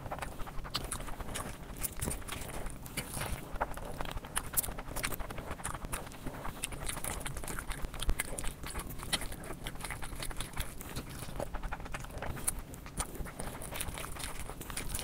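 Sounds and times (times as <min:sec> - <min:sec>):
wet chewing and lip-smacking: 0:00.0 - 0:15.0.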